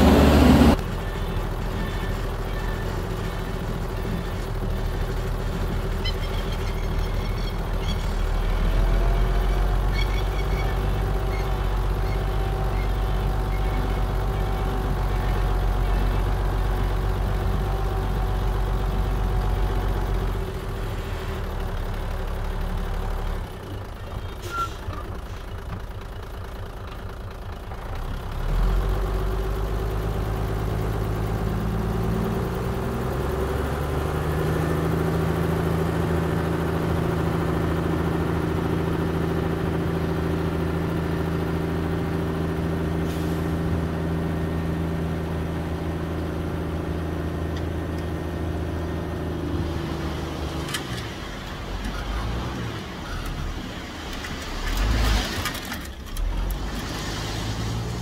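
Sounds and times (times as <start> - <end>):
diesel engine revving up: 0.0 - 25.3, 27.6 - 58.0.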